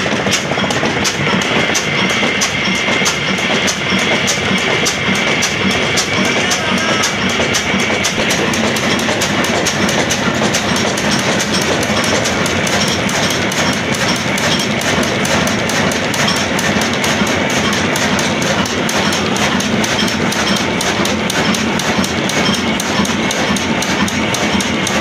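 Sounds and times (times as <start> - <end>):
diesel engine knocking: 0.0 - 25.0.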